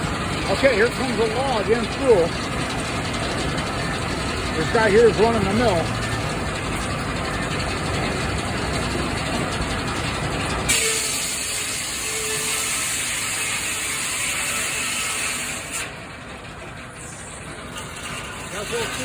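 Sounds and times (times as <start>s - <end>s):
sawmill machinery clattering: 0.0s - 19.0s.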